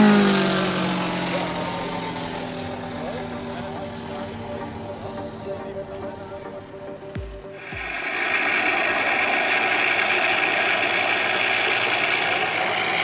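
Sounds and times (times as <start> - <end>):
model plane engine running: 0.0 - 13.0.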